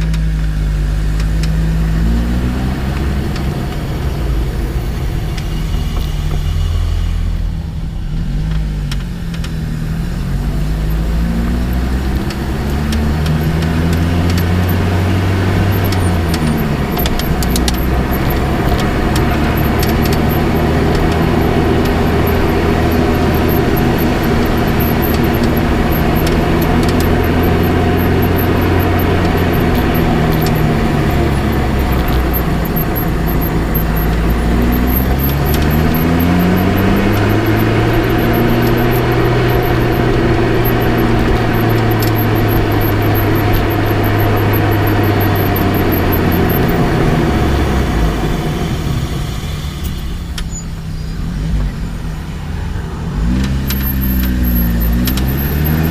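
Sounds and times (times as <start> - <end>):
faint suspension clicks: 0.0 - 6.6, 8.4 - 9.7, 10.3 - 48.0, 53.2 - 55.9
car engine hum: 0.0 - 55.9
road and tyre noise: 0.0 - 55.9.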